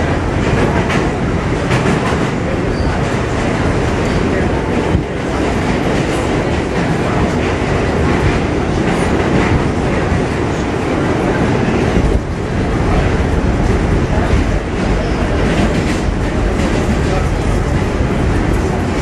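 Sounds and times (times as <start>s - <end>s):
subway train rumble: 0.0s - 19.0s.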